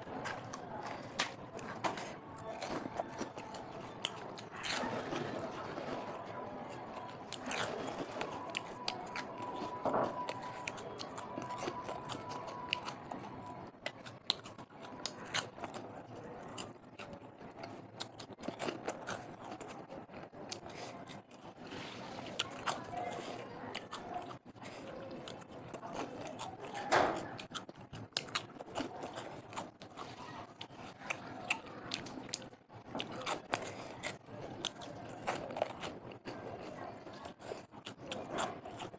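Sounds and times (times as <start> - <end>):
crunching snacks being chewed: 0.0 - 38.9.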